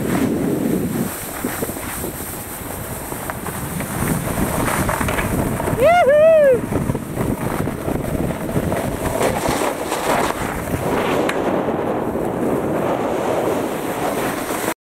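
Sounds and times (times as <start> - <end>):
wind on microphone: 0.0 - 14.8.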